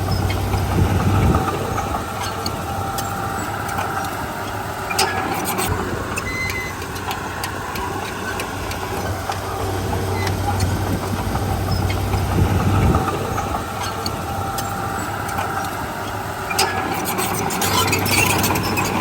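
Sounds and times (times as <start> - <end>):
diesel engine hum: 0.0 - 19.0.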